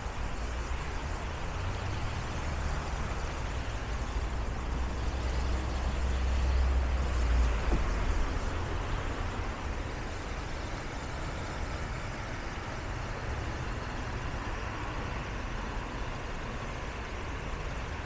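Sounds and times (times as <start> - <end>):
large vehicle engine rumbling: 0.0 - 18.0
street traffic: 0.0 - 18.0.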